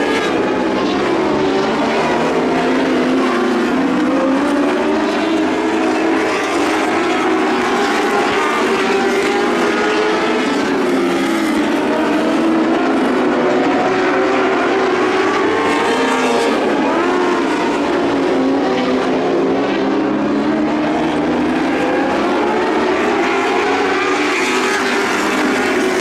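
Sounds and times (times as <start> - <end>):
race car engines wavering: 0.0 - 26.0.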